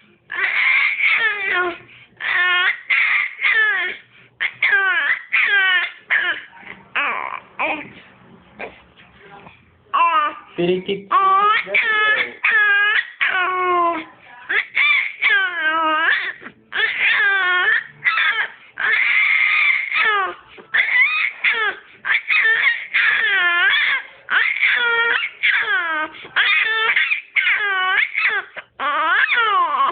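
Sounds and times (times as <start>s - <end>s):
baby wailing: 0.3s - 8.0s, 10.0s - 10.5s, 11.1s - 29.9s.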